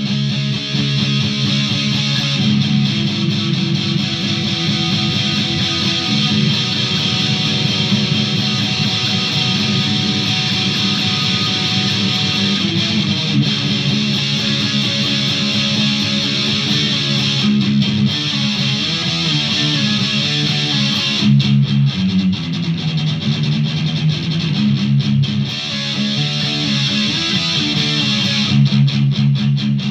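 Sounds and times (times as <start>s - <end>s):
electric guitar playing: 0.0s - 29.9s.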